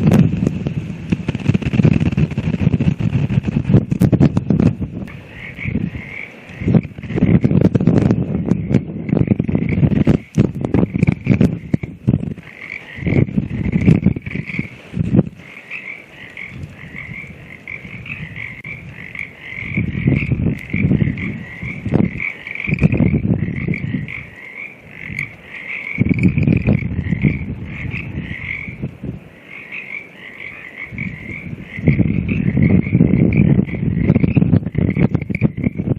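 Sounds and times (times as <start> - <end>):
wind buffeting microphone: 0.0 - 35.9
frogs calling in trills: 5.1 - 35.9.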